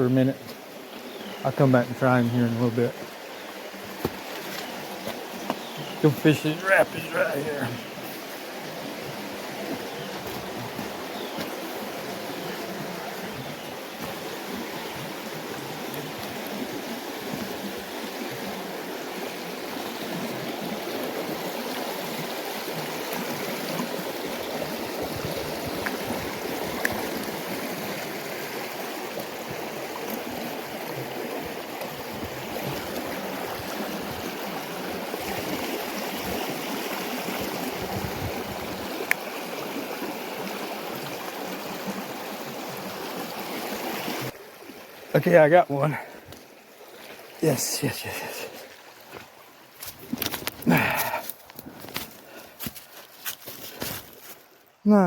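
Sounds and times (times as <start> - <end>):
stream rushing over rapids: 3.0 - 53.5.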